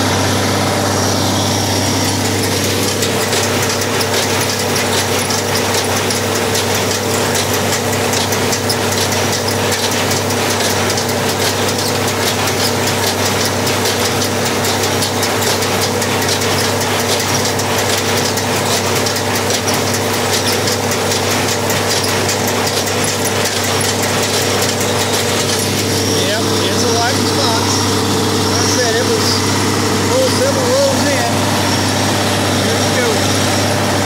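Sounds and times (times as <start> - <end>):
tractor engine running: 0.0 - 34.0
baler mechanism clicking: 0.1 - 29.4.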